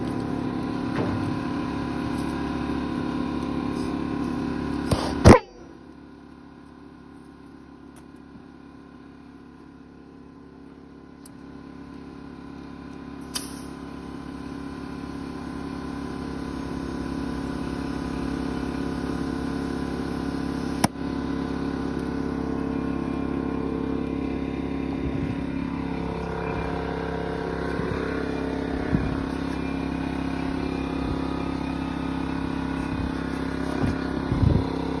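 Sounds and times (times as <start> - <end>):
air compressor motor running: 0.0 - 35.0.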